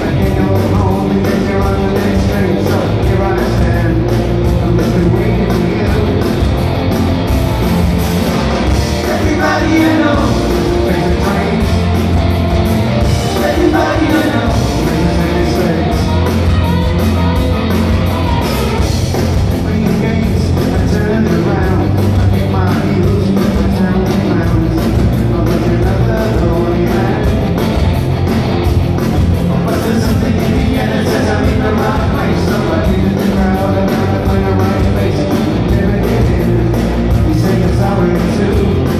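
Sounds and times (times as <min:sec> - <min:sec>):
lead vocal singing: 0:00.0 - 0:06.5, 0:08.7 - 0:17.2, 0:18.3 - 0:27.6, 0:29.6 - 0:38.9
bass guitar: 0:00.0 - 0:38.9
drums: 0:00.0 - 0:38.9
electric guitars: 0:00.0 - 0:38.9.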